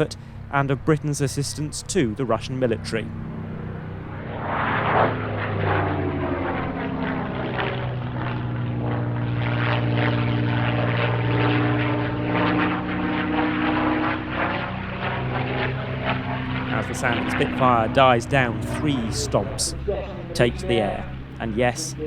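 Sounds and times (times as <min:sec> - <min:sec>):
aircraft engine flying past: 0:00.0 - 0:22.0.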